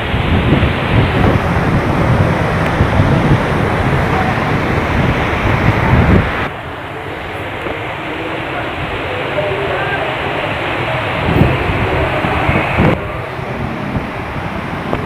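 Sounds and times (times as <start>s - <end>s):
heavy rain: 0.0s - 15.0s
wind gusts buffeting microphone: 0.0s - 15.0s.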